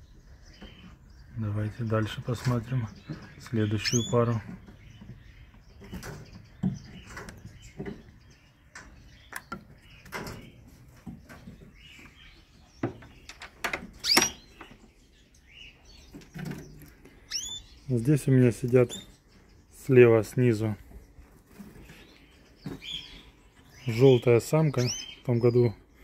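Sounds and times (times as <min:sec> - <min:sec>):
canary chirps: 0:00.0 - 0:26.0.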